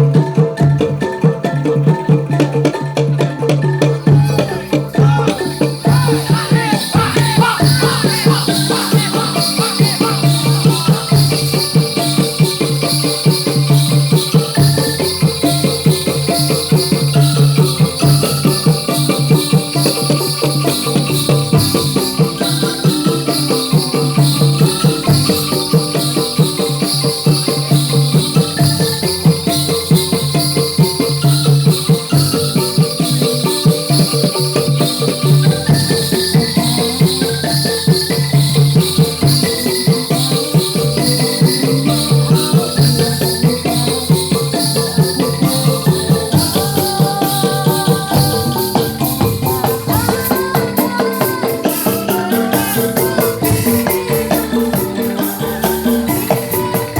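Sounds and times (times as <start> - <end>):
fast rhythmic drumming: 0.0 - 56.9
small bells jingling: 1.9 - 56.9.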